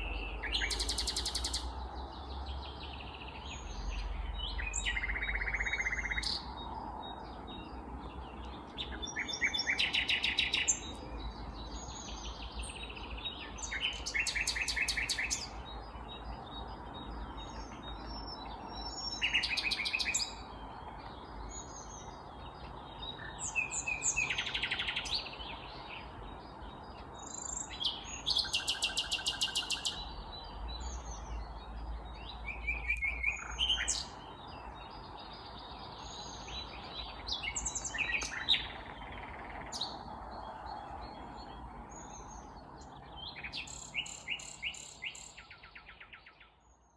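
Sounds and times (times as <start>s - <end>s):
nightingale singing: 0.0s - 46.9s.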